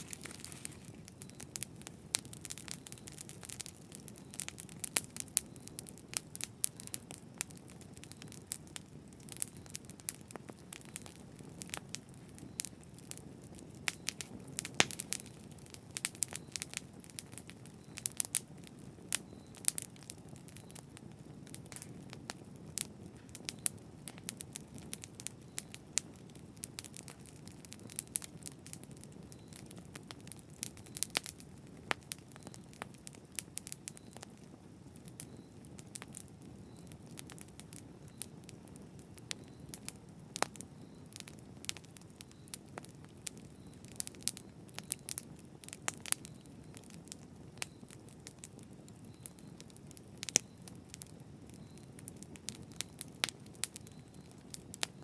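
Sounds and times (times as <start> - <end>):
burning wood crackling: 0.0 - 55.0
low rumble of flames: 0.0 - 55.0.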